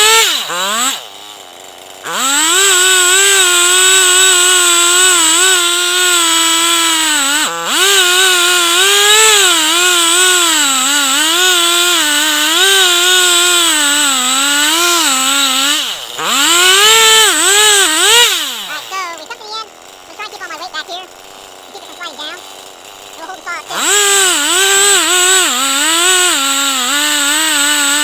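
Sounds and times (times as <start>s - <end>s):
chainsaw ripping a log: 0.0s - 28.0s.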